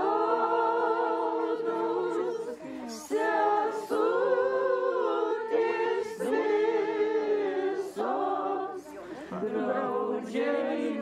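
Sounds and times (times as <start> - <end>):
women singing a cappella: 0.0 - 11.0.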